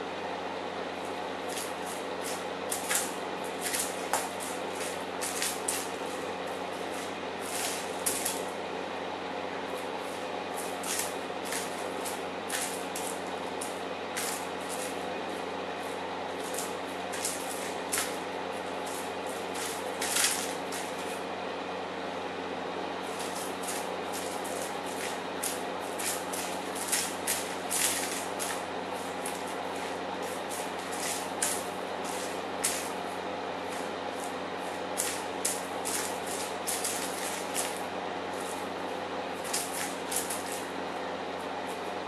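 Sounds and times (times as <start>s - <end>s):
steady background hum: 0.0s - 42.0s
kitten scratching: 1.5s - 8.5s, 9.7s - 21.2s, 23.0s - 38.7s, 39.4s - 40.7s.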